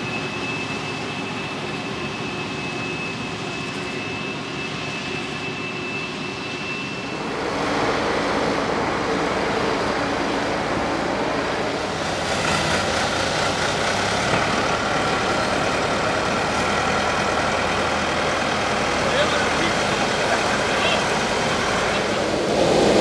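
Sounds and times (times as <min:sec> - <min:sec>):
harvester diesel engine running: 0:00.0 - 0:23.0
steady whine: 0:00.0 - 0:23.0
tractor diesel engines working: 0:00.0 - 0:23.0.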